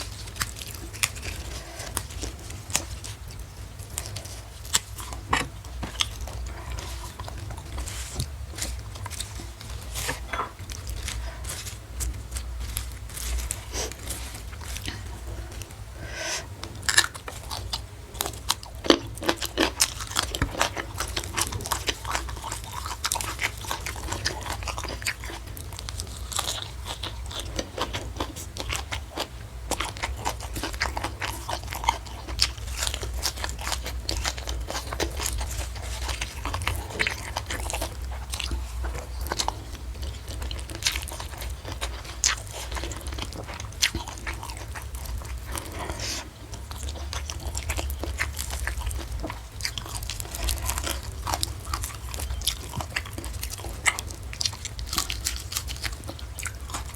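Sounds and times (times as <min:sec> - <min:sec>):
crunchy chewing of food: 0:00.0 - 0:56.9
low steady hum: 0:00.0 - 0:56.9.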